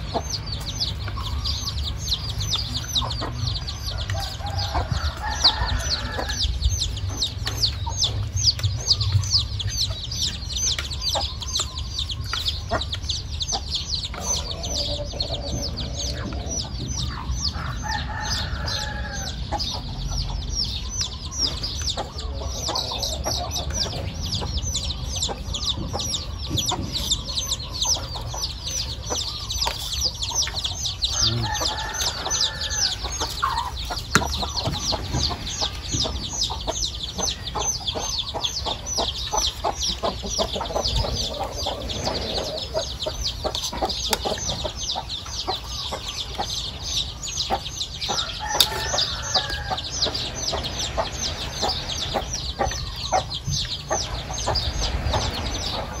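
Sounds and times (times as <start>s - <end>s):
chicken clucking: 0.0s - 56.0s
chicks peeping: 0.0s - 56.0s.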